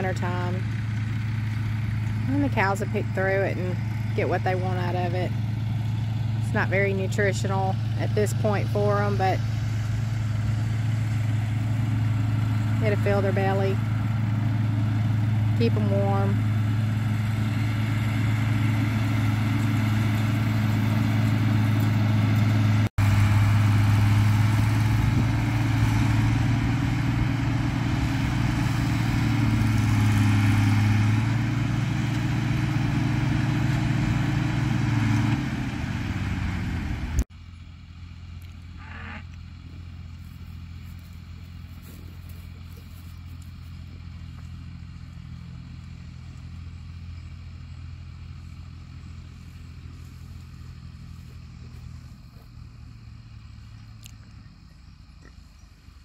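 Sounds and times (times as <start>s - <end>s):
distant tractor engine: 0.0s - 56.0s
tractor engine running: 0.0s - 56.0s.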